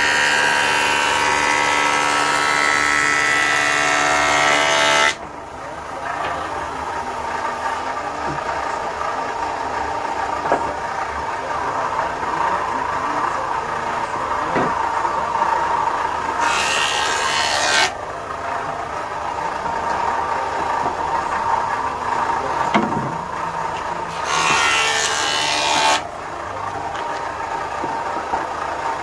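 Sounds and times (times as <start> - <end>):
woodworking machinery running: 0.0 - 29.0.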